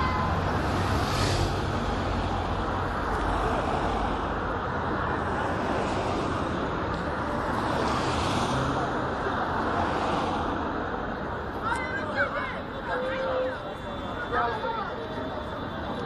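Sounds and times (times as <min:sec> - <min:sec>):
cars passing engine and tyre noise: 0:00.0 - 0:16.0.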